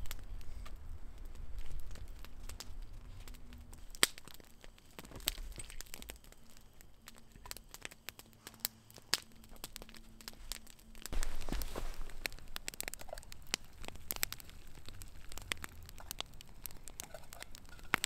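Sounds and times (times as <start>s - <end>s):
campfire crackling: 0.0s - 18.0s
fire pops and snaps: 0.0s - 18.0s.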